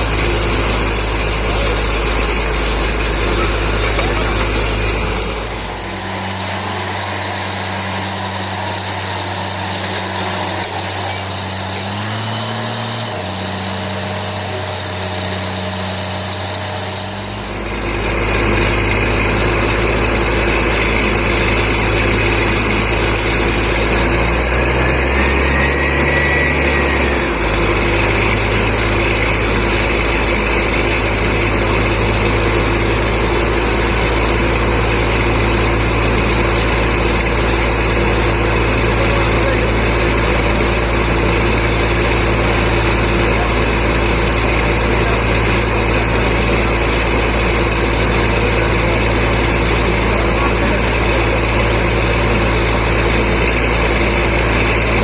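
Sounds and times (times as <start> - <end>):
air compressor running: 0.0 - 55.0
drilling rig running: 0.0 - 55.0.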